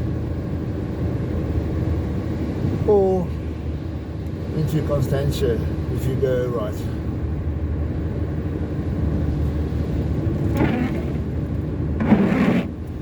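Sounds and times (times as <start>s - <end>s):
car driving at highway speed: 0.0s - 13.0s.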